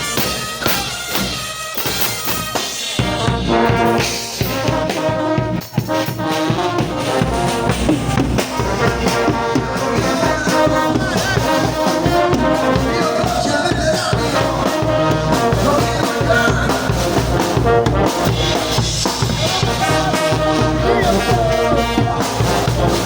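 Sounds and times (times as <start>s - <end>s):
brass band playing: 0.0s - 23.0s
drums: 0.0s - 23.0s.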